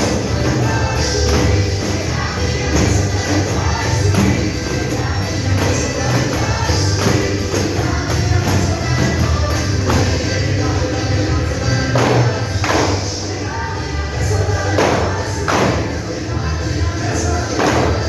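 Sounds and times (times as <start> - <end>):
gospel hymn singing: 0.0 - 18.0
tambourines jingling: 0.0 - 18.0.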